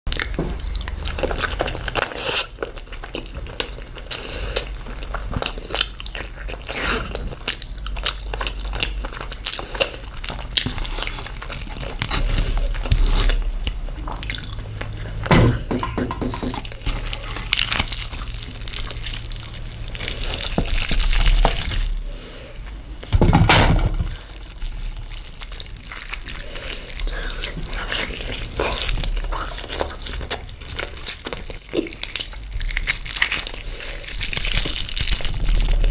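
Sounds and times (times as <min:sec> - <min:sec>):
wet chewing and smacking: 0:00.1 - 0:23.1, 0:24.0 - 0:35.9.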